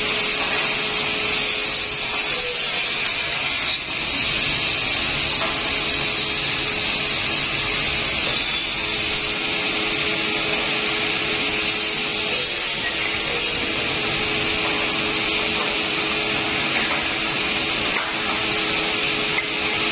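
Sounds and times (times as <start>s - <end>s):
wood-cutting machine hiss: 0.0s - 9.5s, 10.2s - 19.9s.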